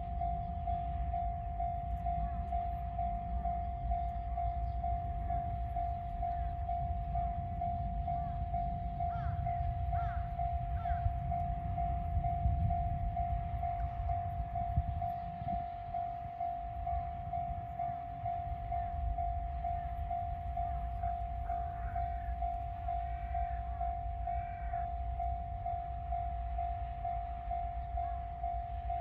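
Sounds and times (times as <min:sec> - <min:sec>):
electric train rumbling past: 0:00.0 - 0:29.0
level crossing warning bell: 0:00.0 - 0:29.0.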